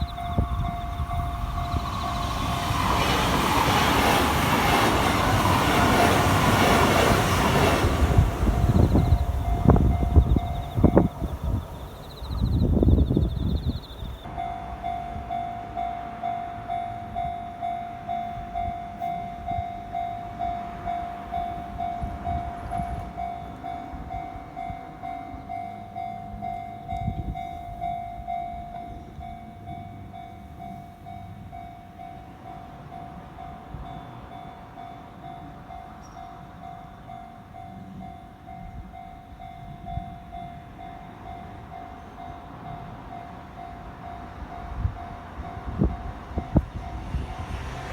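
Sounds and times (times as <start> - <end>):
level crossing warning bell ringing: 0.0 - 47.9
train rumbling over crossing: 0.0 - 47.9.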